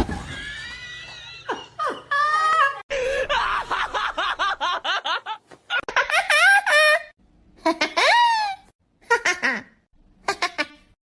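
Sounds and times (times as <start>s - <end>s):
person laughing: 1.5s - 10.9s.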